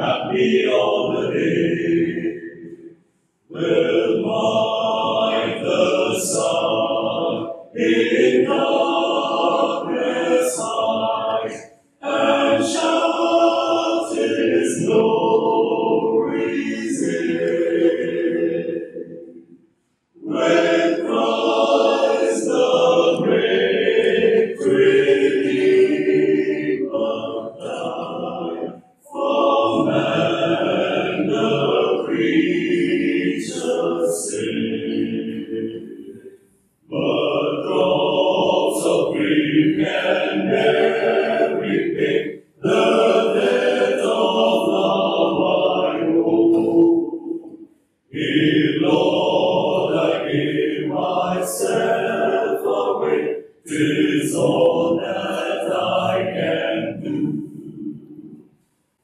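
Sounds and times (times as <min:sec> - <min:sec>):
men's choir singing a hymn: 0:00.0 - 0:19.5, 0:20.2 - 0:58.4.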